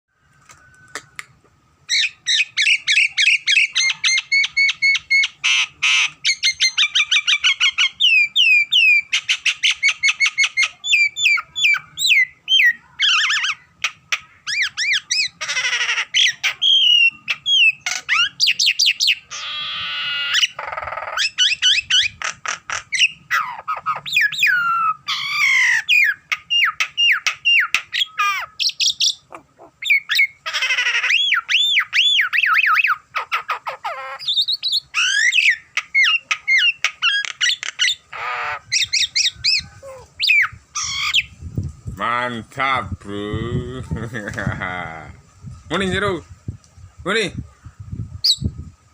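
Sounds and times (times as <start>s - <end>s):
bird harsh squawks: 1.9s - 41.4s
myna whistled calls: 1.9s - 41.4s.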